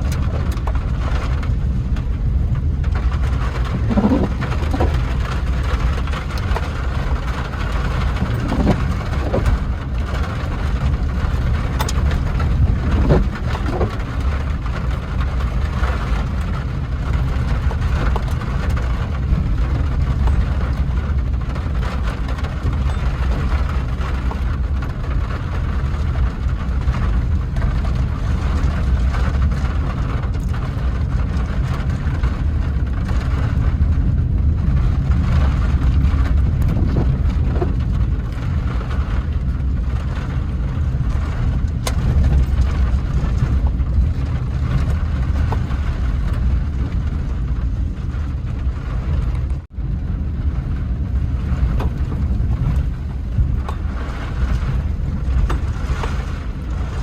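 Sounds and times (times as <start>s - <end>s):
car road and engine rumble: 0.0s - 57.0s
rain on car: 0.0s - 57.0s.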